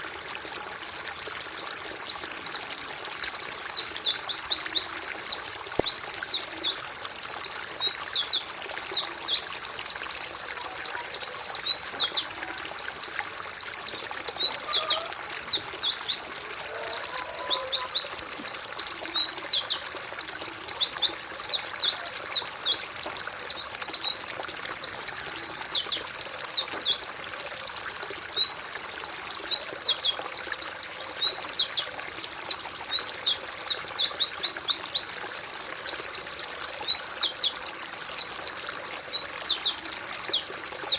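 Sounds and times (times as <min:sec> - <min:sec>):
birds chirping: 0:01.0 - 0:35.2.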